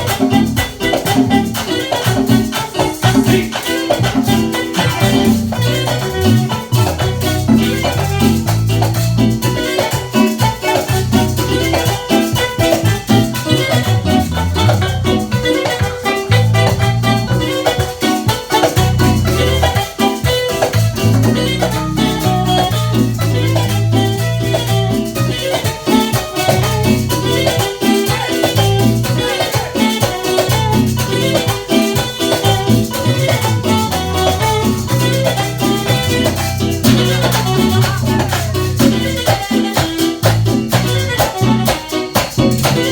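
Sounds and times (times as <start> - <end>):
band playing latin music: 0.0 - 42.9
percussion: 0.0 - 42.9
steady bass line: 0.0 - 42.9.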